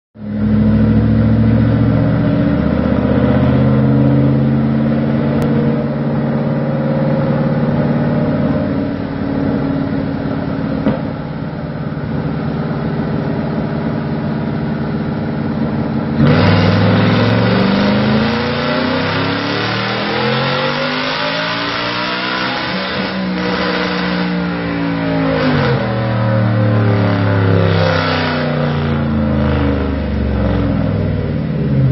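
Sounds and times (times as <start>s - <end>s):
truck engine revving on dyno: 0.2s - 31.9s.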